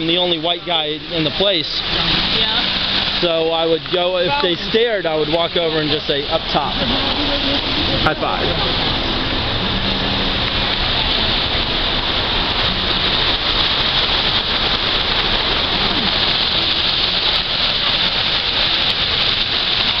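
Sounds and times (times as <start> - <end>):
fountain water splashing into pool: 0.0 - 20.0.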